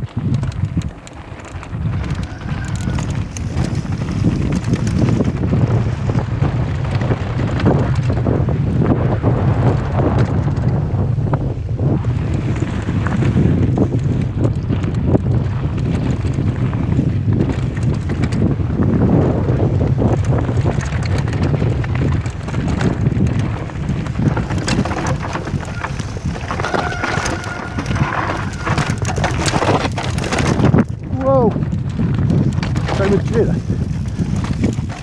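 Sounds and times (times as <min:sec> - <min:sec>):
bike clicking and rattling: 0:00.0 - 0:35.0
steady low rumble: 0:00.0 - 0:35.0
wind buffeting microphone: 0:00.0 - 0:35.0.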